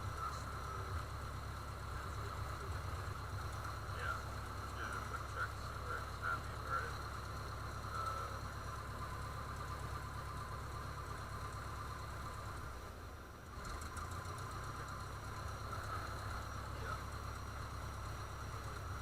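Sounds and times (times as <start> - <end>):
light aircraft engine running: 0.0 - 19.0.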